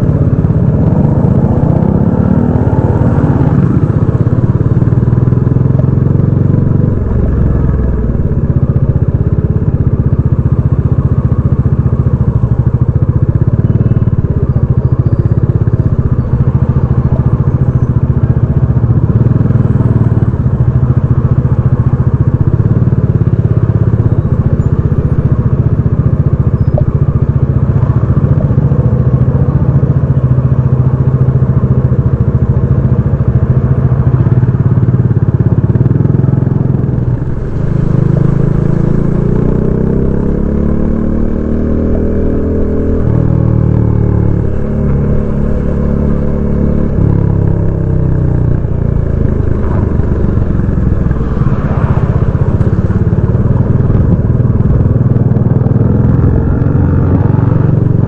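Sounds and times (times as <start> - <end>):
motorcycle engine while riding: 0.0 - 58.0.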